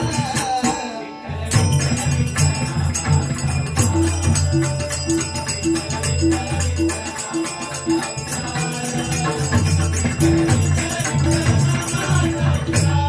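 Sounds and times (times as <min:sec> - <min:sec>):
hand cymbals clashing: 0:01.6 - 0:13.0.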